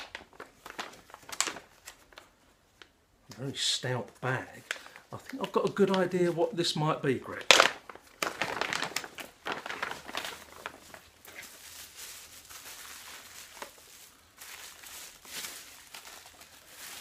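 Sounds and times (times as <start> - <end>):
plastic bag crinkling: 0.0 - 2.4, 4.1 - 17.0.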